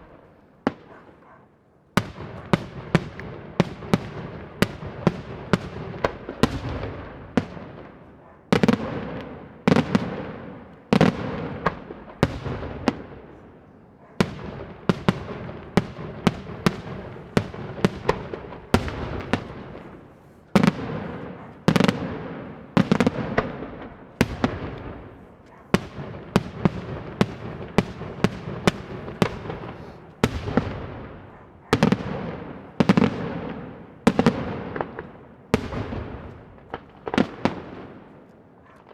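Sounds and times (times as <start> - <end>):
fireworks bangs echoing: 0.0 - 1.4, 2.0 - 38.9.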